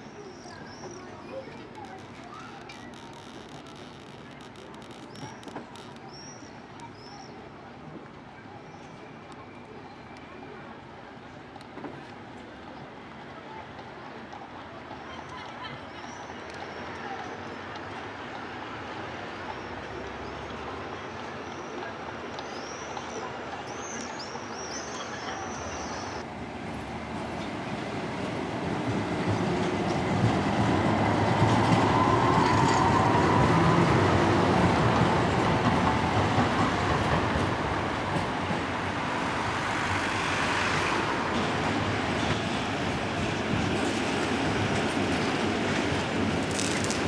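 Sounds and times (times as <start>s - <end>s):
trams rolling past: 0.0s - 47.0s.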